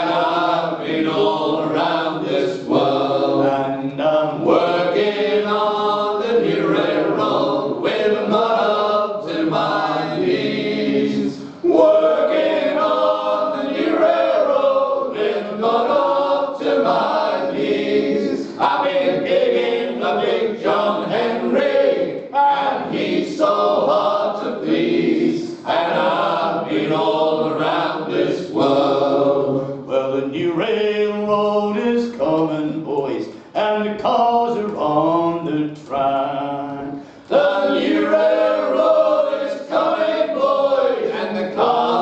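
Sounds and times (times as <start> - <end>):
men singing in harmony: 0.0 - 42.0.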